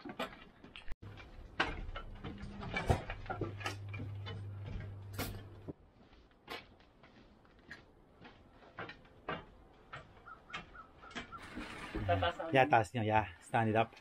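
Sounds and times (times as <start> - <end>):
footsteps on metal ramp: 0.0 - 12.2.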